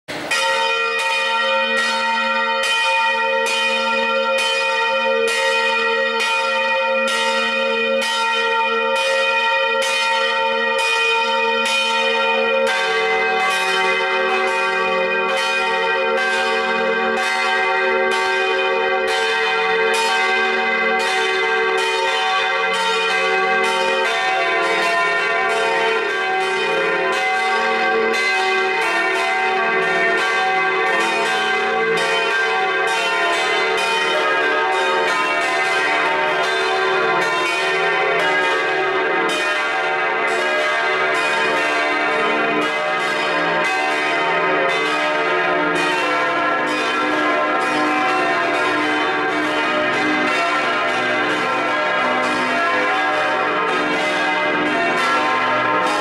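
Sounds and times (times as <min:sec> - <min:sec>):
church bells ringing: 0:00.1 - 0:56.0.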